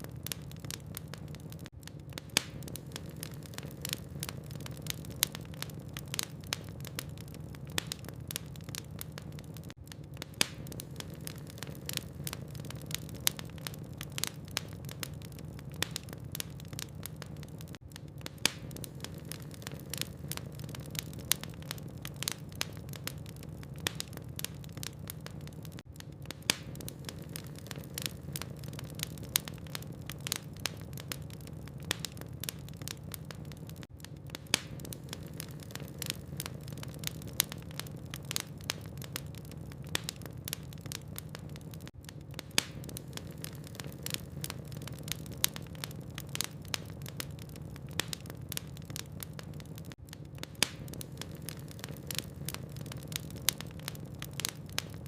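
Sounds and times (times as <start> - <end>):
logs crackling and popping: 0.0 - 55.0.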